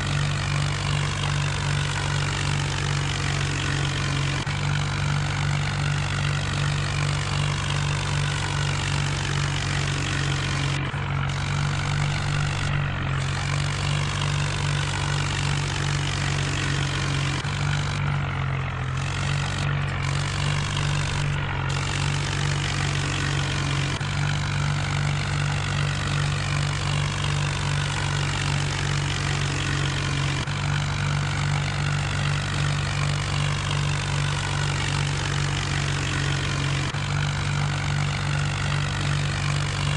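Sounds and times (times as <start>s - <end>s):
tractor diesel engine humming: 0.0s - 39.9s.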